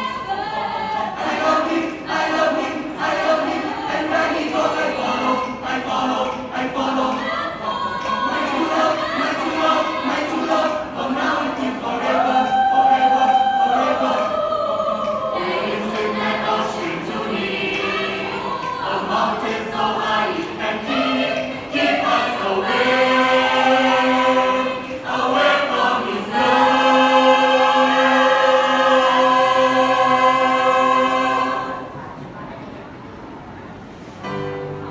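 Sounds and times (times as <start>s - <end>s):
choir singing in harmony: 0.0s - 32.2s.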